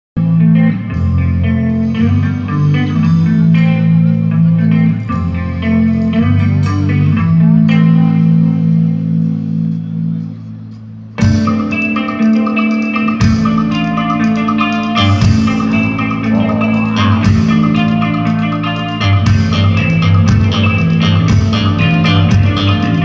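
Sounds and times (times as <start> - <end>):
electric guitar chords: 0.2 - 23.0
held bass guitar notes: 0.2 - 23.0.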